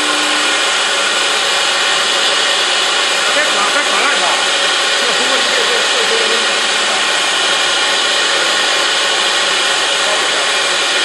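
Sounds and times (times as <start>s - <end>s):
router spindle cutting wood: 0.0s - 11.0s.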